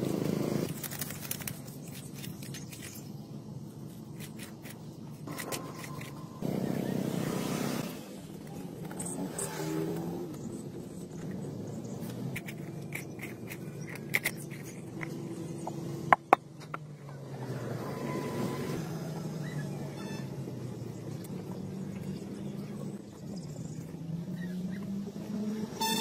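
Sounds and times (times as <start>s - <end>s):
engine hum: 0.0s - 26.0s.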